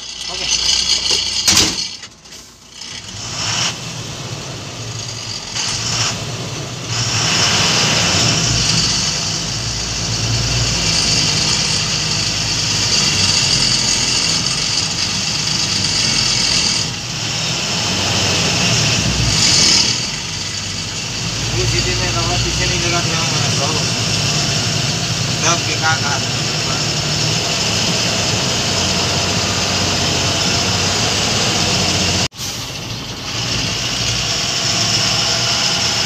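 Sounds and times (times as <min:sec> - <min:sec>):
diesel truck engine from cab: 0:00.0 - 0:36.0.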